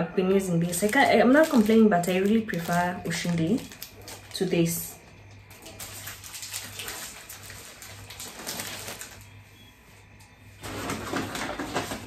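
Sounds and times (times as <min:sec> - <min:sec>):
plastic packaging rustling: 0:00.4 - 0:09.4, 0:10.6 - 0:12.0.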